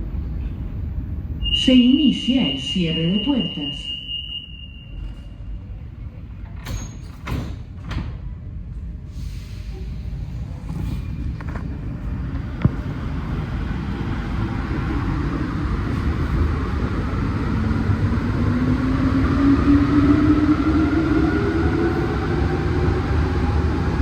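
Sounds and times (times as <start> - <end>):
metro train running rumble: 0.0 - 24.0.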